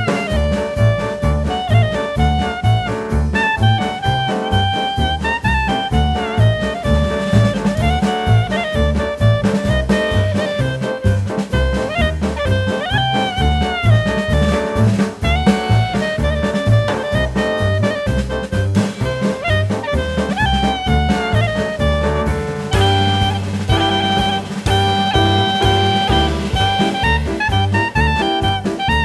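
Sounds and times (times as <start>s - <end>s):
bass: 0.0s - 29.0s
drum beat: 0.0s - 29.0s
saxophone melody: 0.0s - 29.0s.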